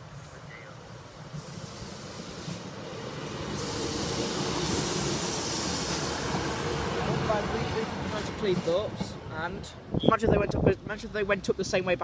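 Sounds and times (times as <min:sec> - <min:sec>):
diesel railcar passing: 0:00.0 - 0:10.0.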